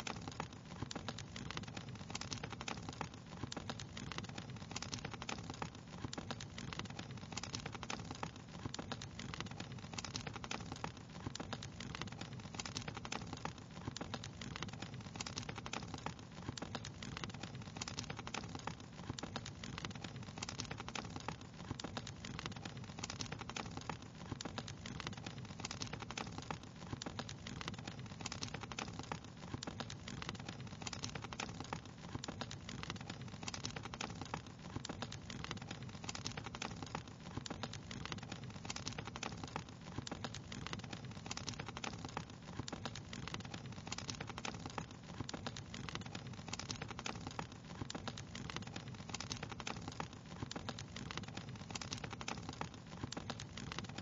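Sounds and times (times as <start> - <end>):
continuous low noise: 0.0 - 54.0
wood fire crackling: 0.0 - 54.0.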